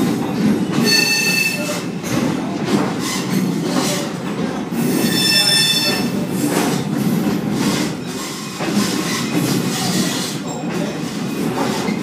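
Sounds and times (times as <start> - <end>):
railroad cars rumbling on track: 0.0 - 12.0
steel wheels squealing on rails: 0.0 - 12.0.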